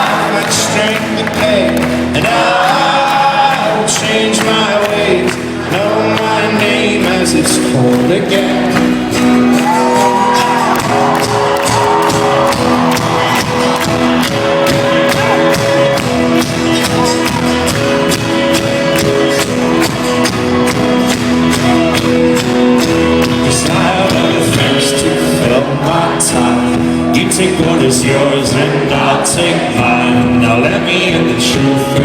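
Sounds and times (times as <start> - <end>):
folk-rock band playing: 0.0 - 32.0.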